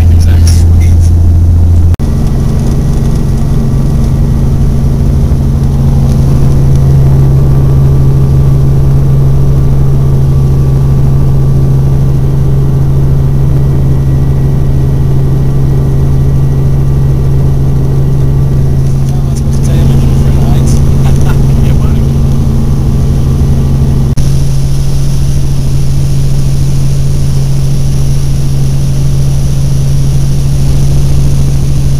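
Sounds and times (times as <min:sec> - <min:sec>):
helicopter engine and rotor: 0:00.0 - 0:31.9.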